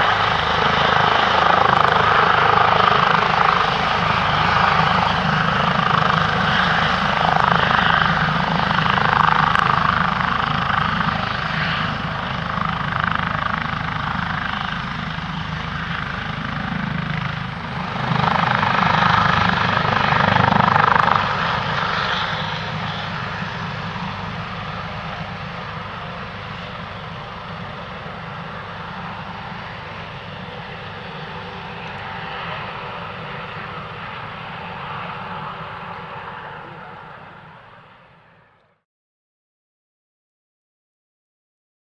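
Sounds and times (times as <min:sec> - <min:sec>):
helicopter rotor and turbine noise: 0:00.0 - 0:38.9.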